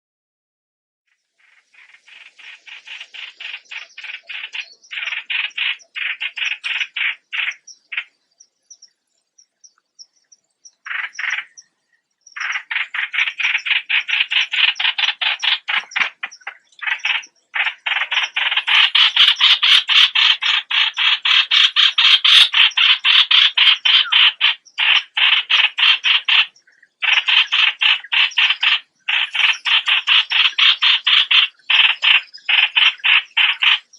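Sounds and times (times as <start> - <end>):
bird calling harsh repeated notes: 1.4 - 8.8, 10.1 - 33.9.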